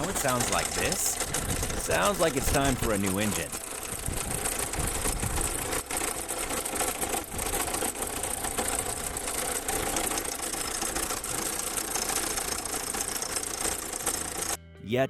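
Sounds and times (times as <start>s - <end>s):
car engine with mechanical noise: 0.0s - 14.6s.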